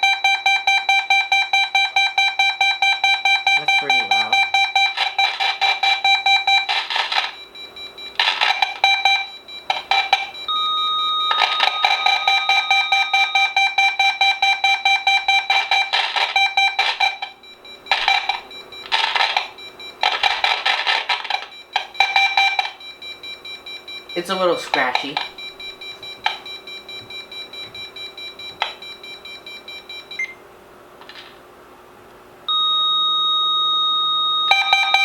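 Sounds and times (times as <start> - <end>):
pulsing electronic alarm: 0.0 - 30.4, 32.5 - 35.0.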